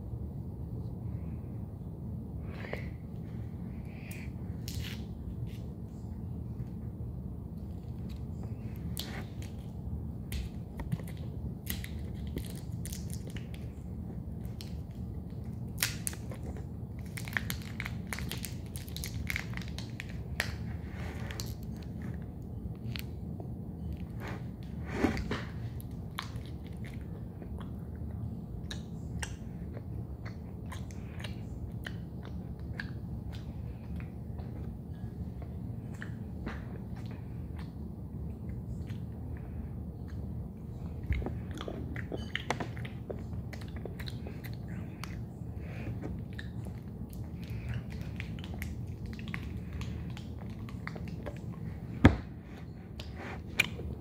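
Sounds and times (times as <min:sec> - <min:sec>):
steady low hum: 0:00.0 - 0:54.0
person chewing chocolate: 0:07.6 - 0:54.0.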